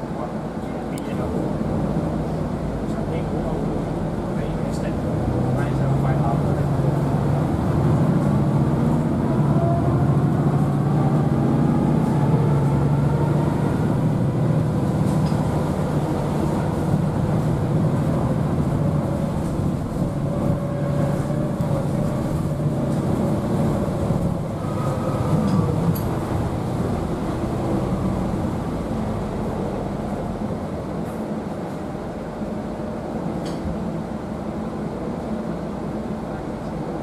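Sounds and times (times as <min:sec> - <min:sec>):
bus engine droning: 0:00.0 - 0:37.0
road noise: 0:00.0 - 0:37.0.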